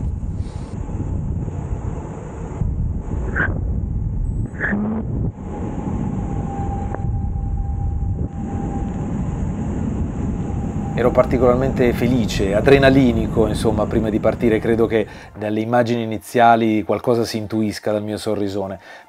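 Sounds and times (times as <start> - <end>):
bicycle tyre noise on road: 0.0 - 15.3
wind on microphone: 0.0 - 15.4.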